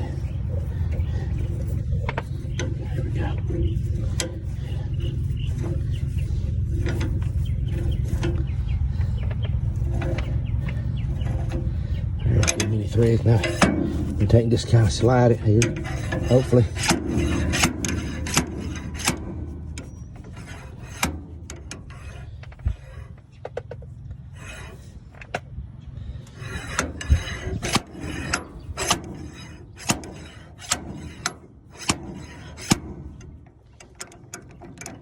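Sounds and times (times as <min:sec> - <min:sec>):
slide hammer scraping along shaft: 0:00.0 - 0:25.4, 0:26.0 - 0:35.0.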